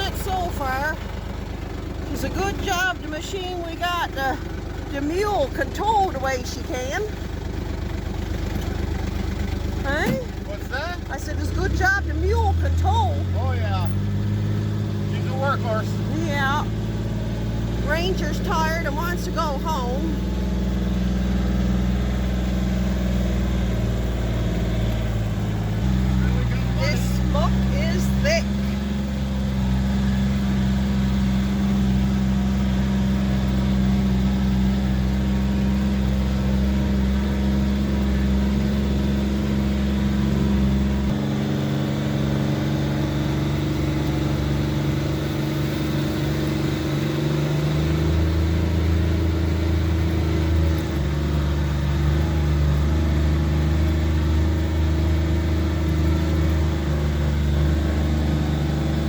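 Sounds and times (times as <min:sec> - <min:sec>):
utility vehicle engine under load: 0:00.0 - 0:59.0.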